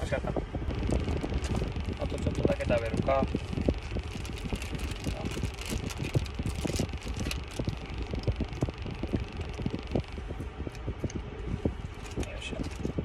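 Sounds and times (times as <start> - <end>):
car engine and air conditioning hum: 0.0 - 13.0
small irregular clicks and crackles: 0.7 - 11.3, 11.9 - 13.0.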